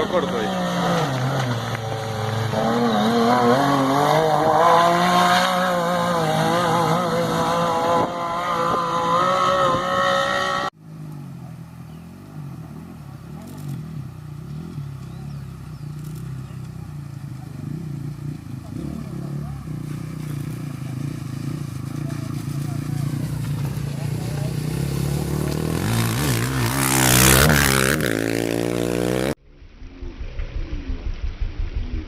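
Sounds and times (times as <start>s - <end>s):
racing engines revving: 0.0s - 10.8s, 12.3s - 29.4s.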